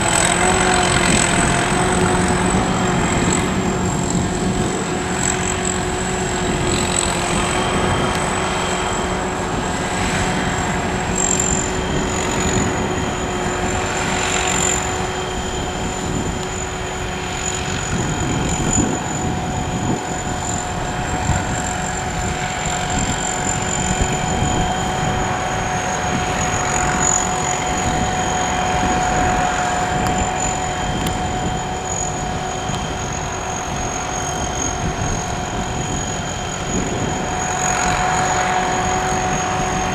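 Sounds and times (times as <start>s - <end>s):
harvester engine and machinery: 0.0s - 39.9s
steady high whine: 0.0s - 39.9s.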